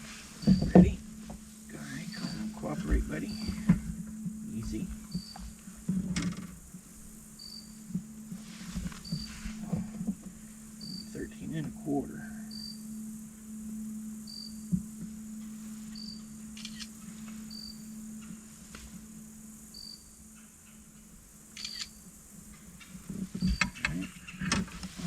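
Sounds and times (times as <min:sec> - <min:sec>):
insect chirping: 0:00.0 - 0:25.0
steady low hum: 0:00.0 - 0:25.0.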